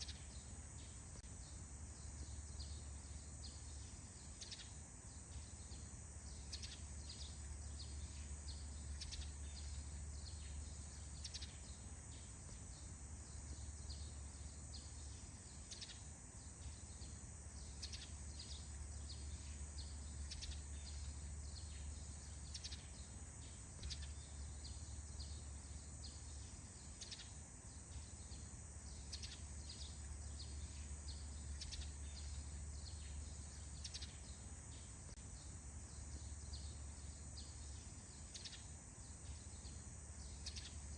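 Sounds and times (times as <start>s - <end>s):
short bird or insect chirps: 0.0s - 40.9s.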